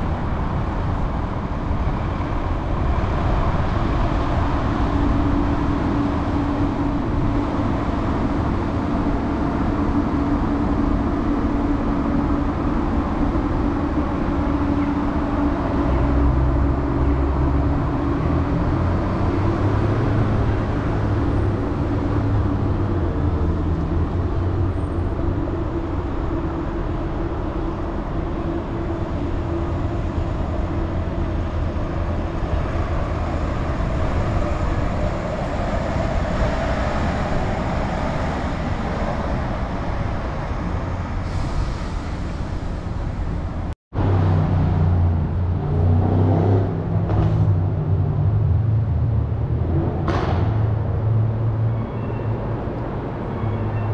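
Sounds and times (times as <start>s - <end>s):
passing vehicle engine rumble: 0.0s - 53.9s
street traffic noise: 0.0s - 53.9s.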